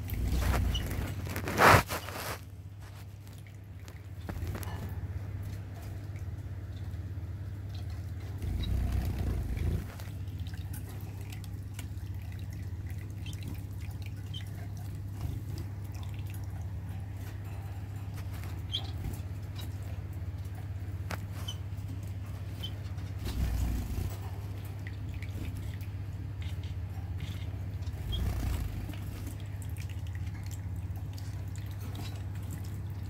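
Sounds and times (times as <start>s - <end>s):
low pump hum: 0.0s - 33.0s
water trickling and dripping: 5.3s - 23.2s, 24.2s - 33.0s.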